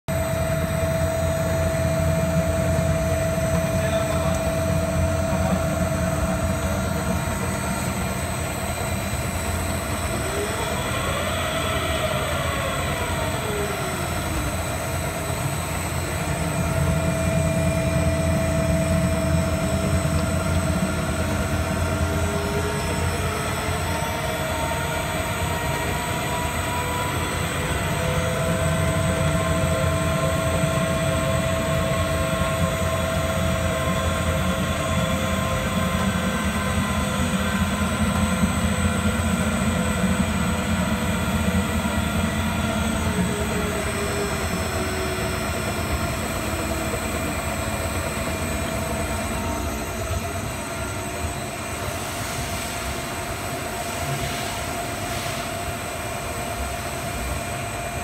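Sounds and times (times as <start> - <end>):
constant tone: 0.1 - 58.0
machine hum: 0.1 - 58.0.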